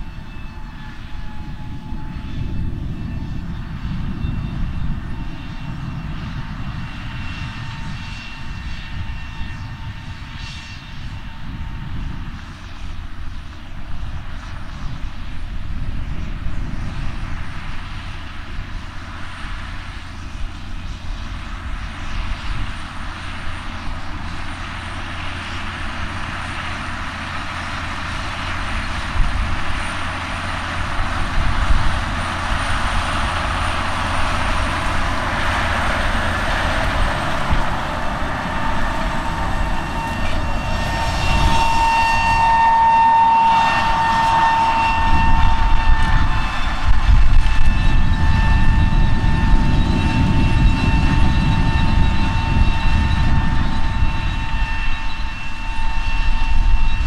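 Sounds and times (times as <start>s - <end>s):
steady high whine: 0.0s - 57.0s
tractor diesel engine running: 0.0s - 57.0s.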